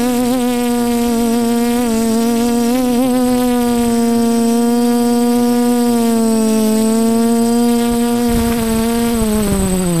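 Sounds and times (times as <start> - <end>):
drone propellers humming: 0.0 - 10.0.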